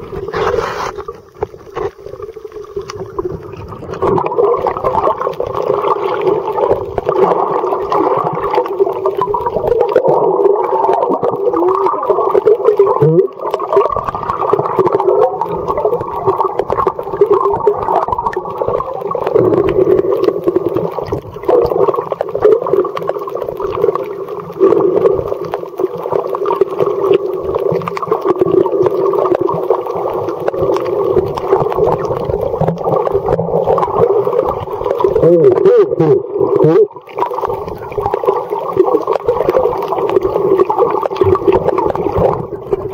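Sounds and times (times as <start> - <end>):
muffled underwater rushing: 0.0 - 42.9.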